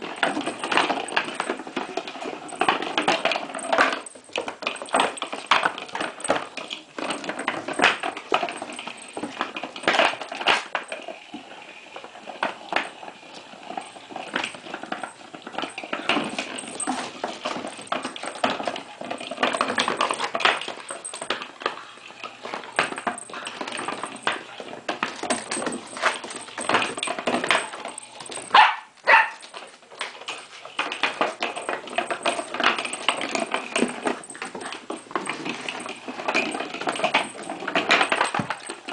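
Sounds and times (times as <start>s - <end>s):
plastic ball toy rattling on floor: 0.0s - 38.9s.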